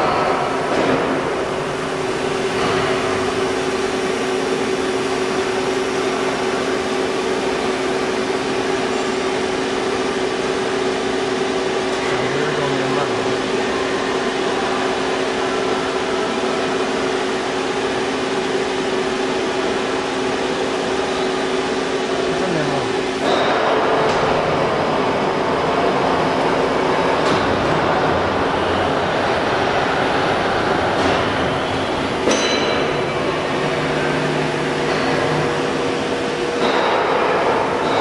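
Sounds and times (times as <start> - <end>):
drilling machine humming: 0.0 - 38.0.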